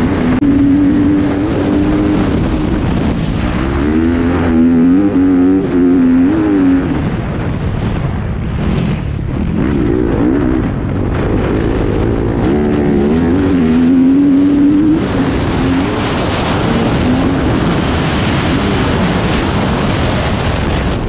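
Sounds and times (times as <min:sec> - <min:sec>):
motocross engine revving: 0:00.0 - 0:07.4, 0:08.6 - 0:20.3
wind rushing over microphone: 0:00.0 - 0:21.0.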